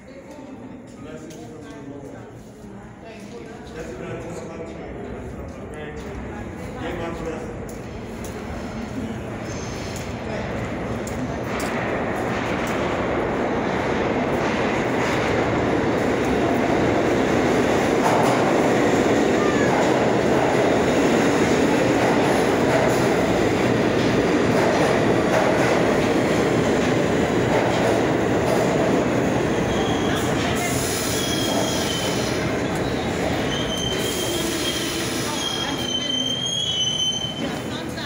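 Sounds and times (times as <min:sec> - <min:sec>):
train wheels rumbling on rails: 0:03.8 - 0:38.0.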